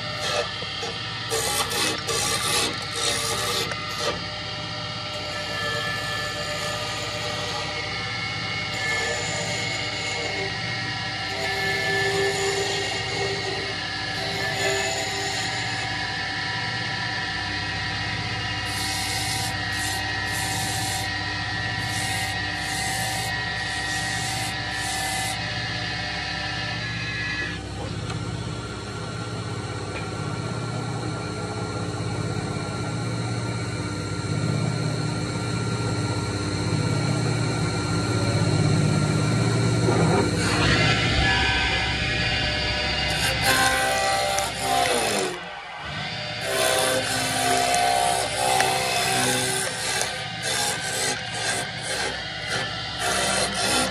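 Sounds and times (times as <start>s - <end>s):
lathe motor hum and whine: 0.0s - 53.9s.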